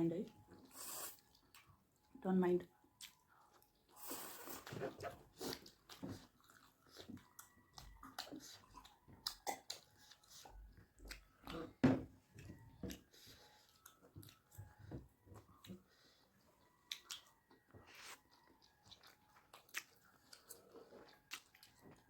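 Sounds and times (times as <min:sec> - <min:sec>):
person chewing food: 0:00.5 - 0:02.1, 0:02.9 - 0:22.0.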